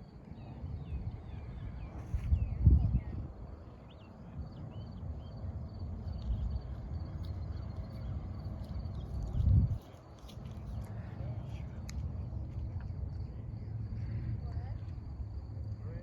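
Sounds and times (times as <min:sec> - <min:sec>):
wind buffeting microphone: 0:00.6 - 0:13.9.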